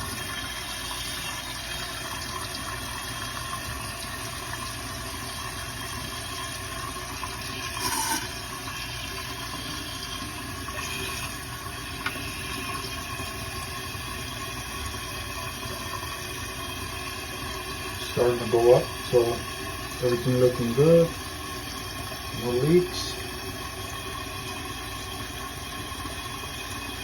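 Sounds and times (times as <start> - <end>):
toilet tank refilling: 0.0 - 27.0.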